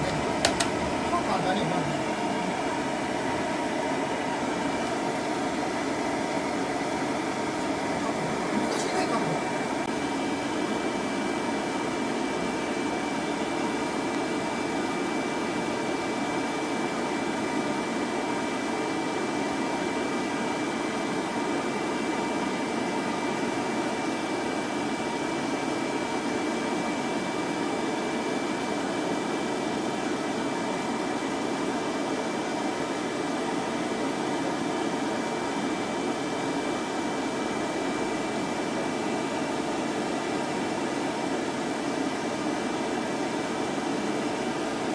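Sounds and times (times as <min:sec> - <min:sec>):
blow dryer running: 0:00.0 - 0:44.9.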